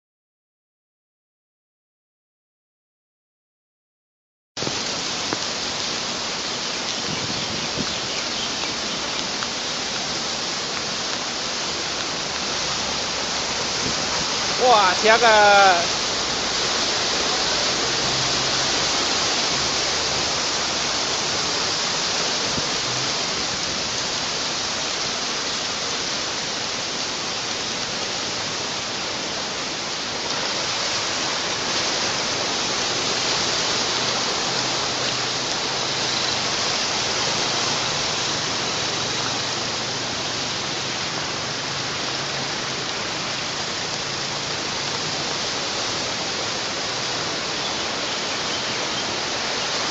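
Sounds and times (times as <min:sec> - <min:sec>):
heavy rain: 0:04.6 - 0:49.9
running floodwater: 0:04.6 - 0:49.9.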